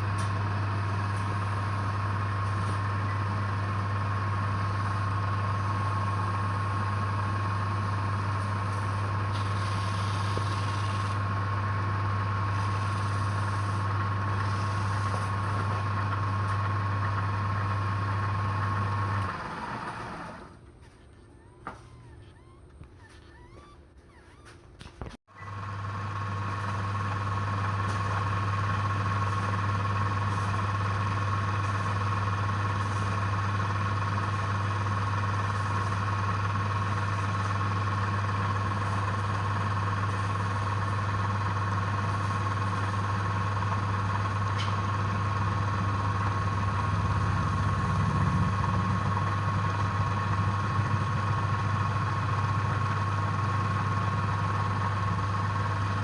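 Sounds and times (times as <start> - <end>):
lathe motor humming with whine: 0.0 - 20.6, 25.4 - 56.0.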